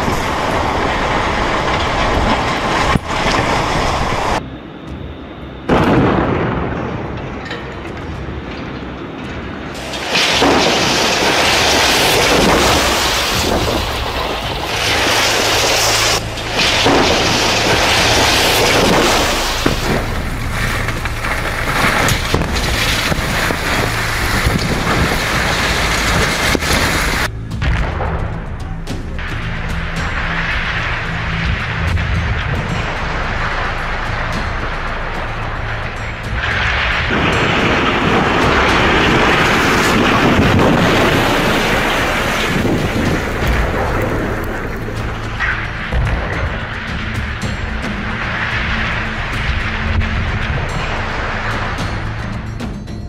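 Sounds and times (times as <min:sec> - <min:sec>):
building collapsing with rumble: 0:00.0 - 0:04.4, 0:05.7 - 0:52.9
debris cracking and pattering: 0:00.0 - 0:04.4, 0:09.8 - 0:28.4, 0:29.0 - 0:52.8.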